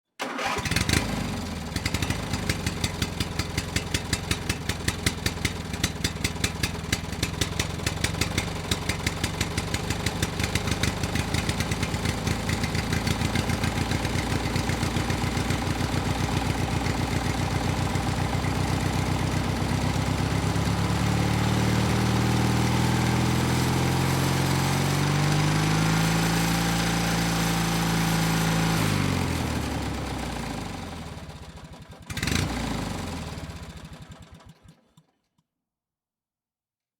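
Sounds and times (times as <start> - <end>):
two-stroke engine idling and revving: 0.3 - 34.9.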